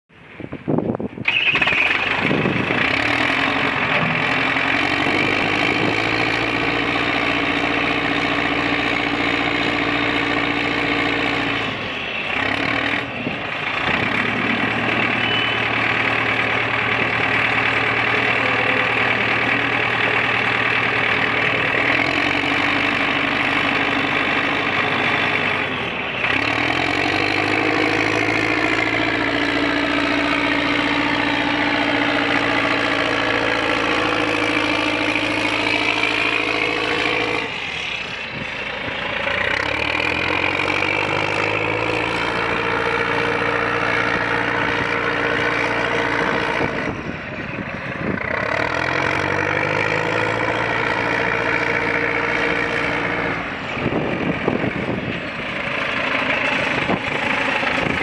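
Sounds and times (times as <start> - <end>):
diesel loader engine running: 0.1 - 58.0.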